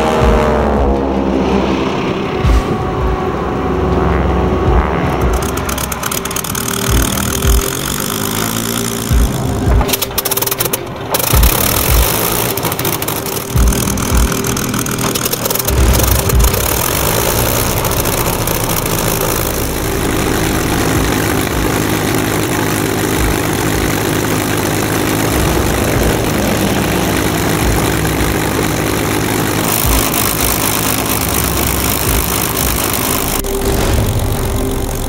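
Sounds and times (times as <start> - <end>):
aircraft engine idling: 1.4 - 35.0.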